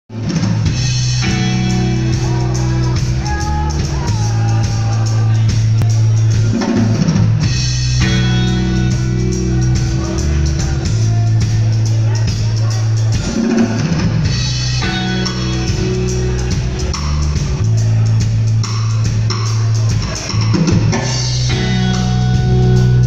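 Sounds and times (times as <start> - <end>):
drum kit: 0.1 - 23.0
electric guitars playing chords: 0.2 - 23.0.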